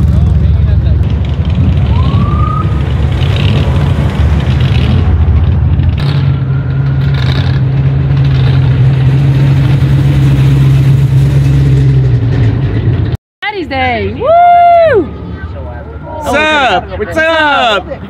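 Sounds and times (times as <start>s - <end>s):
cars driving slowly past: 0.0s - 18.0s.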